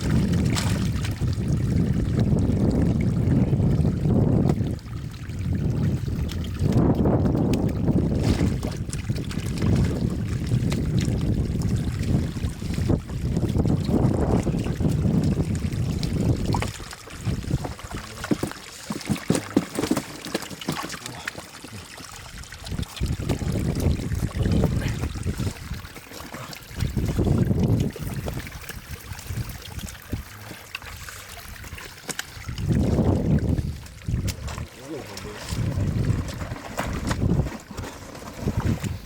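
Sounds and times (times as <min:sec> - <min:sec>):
wind buffeting microphone: 0:00.0 - 0:18.2, 0:22.3 - 0:25.9, 0:26.6 - 0:39.0
water trickling and splashing: 0:00.0 - 0:39.0.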